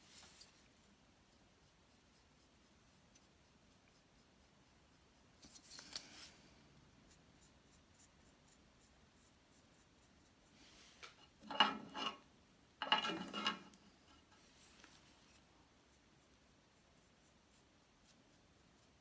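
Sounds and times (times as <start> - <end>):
small brush scratching: 0.0 - 19.0.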